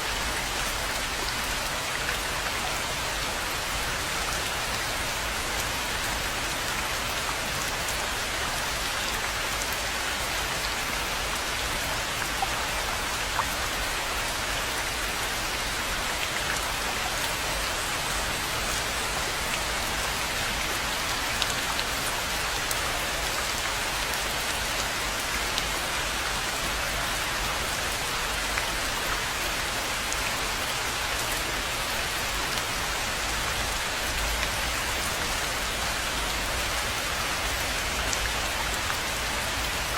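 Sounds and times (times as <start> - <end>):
steady rain on a pond: 0.0 - 39.9.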